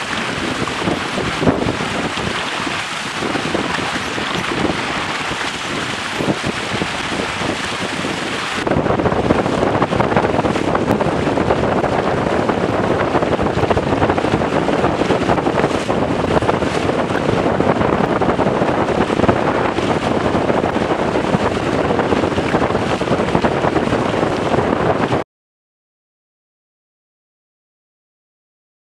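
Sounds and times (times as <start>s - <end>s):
water rushing past hulls: 0.0s - 25.2s
wind buffeting microphone: 0.0s - 25.2s.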